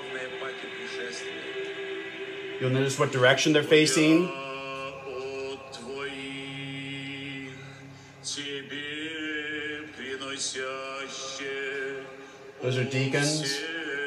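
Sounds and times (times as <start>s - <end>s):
choir chanting a cappella: 0.0s - 14.0s.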